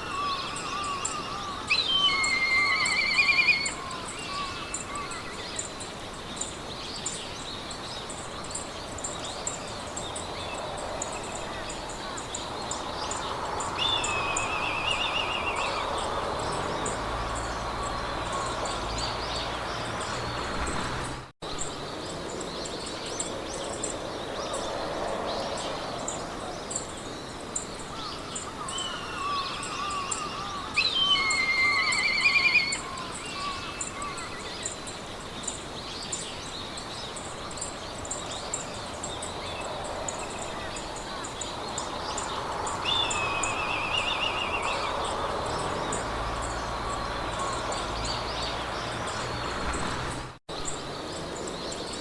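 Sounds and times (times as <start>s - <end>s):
insect chirping: 0.0s - 20.5s, 22.7s - 49.9s
songbirds singing: 0.0s - 52.0s
wind through grass: 0.0s - 52.0s.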